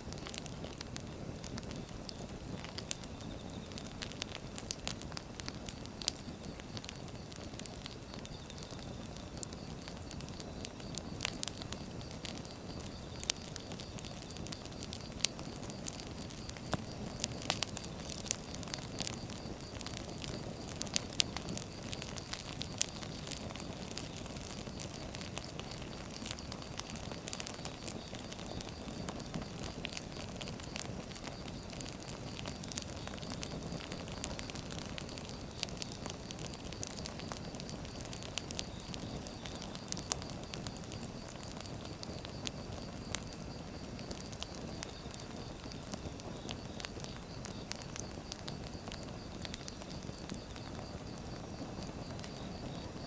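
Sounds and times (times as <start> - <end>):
burning logs crackling and popping: 0.0 - 53.0
low rush of flames: 0.0 - 53.0.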